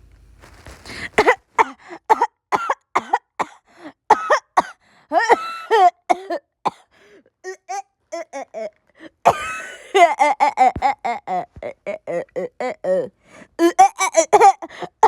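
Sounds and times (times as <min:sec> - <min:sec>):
person coughing: 0:00.9 - 0:06.9, 0:07.5 - 0:13.0, 0:13.6 - 0:15.0.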